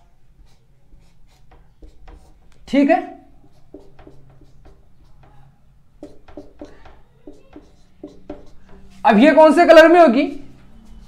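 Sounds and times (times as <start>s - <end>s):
marker squeaking on whiteboard: 0.0s - 11.0s.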